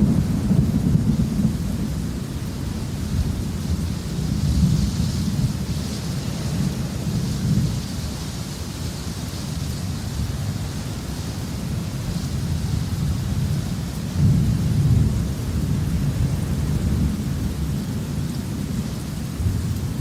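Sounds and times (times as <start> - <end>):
low thunder rumbling: 0.0 - 8.1, 10.1 - 20.0
steady rain falling: 0.0 - 20.0.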